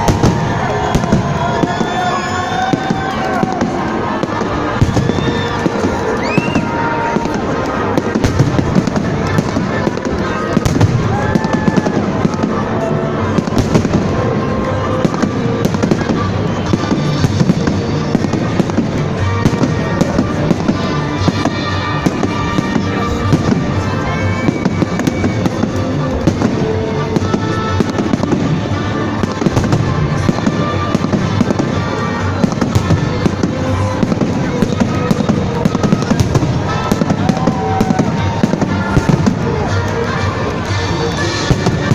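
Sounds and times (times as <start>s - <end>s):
fireworks popping and crackling: 0.0s - 41.9s
music playing: 0.0s - 41.9s.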